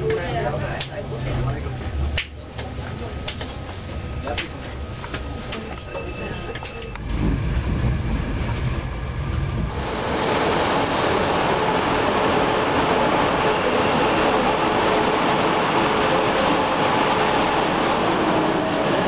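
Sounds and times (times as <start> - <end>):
electric train rushing hum: 0.0 - 19.0
low rumble inside train: 0.0 - 19.0.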